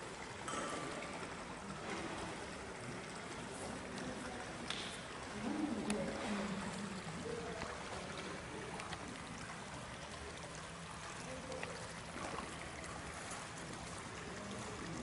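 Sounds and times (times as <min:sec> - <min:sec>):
water trickling over sand: 0:00.0 - 0:15.0.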